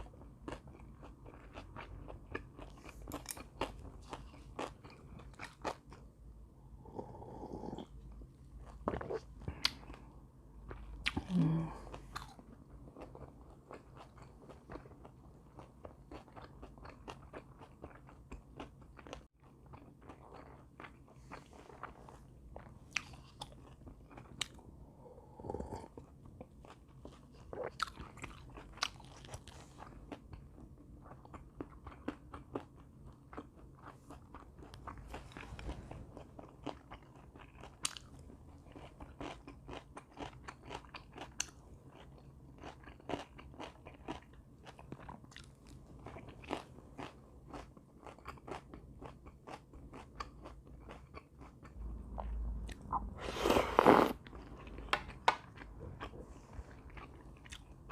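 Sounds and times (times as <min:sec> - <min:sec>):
person chewing crisp food: 0:00.0 - 0:06.2, 0:06.8 - 0:57.9.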